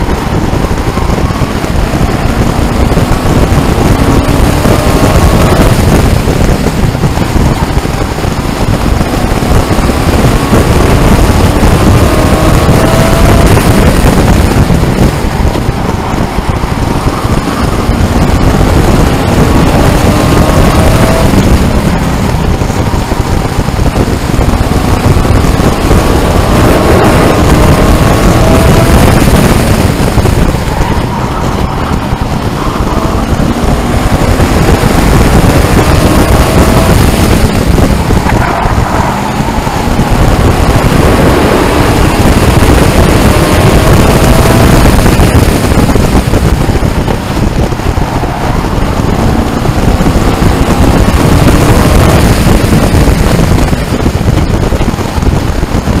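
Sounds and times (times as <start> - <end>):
race truck engine rumbling: 0.0 - 56.0.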